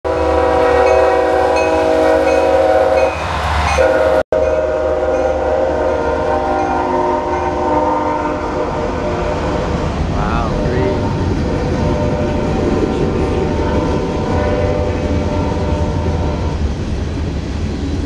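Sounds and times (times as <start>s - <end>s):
locomotive air horn: 0.1s - 16.6s
train rumbling past: 0.1s - 18.0s.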